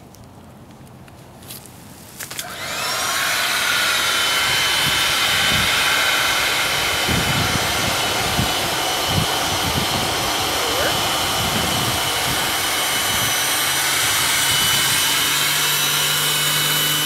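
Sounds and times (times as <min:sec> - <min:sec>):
electric air pump whining: 0:02.2 - 0:17.0
air blowing hiss: 0:02.4 - 0:17.0.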